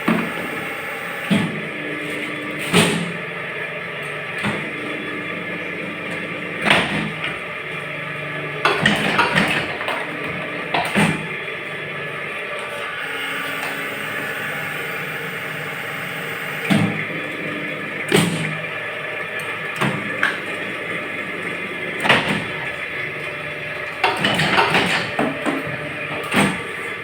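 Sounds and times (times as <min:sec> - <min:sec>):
moulding machine humming: 0:00.0 - 0:27.0.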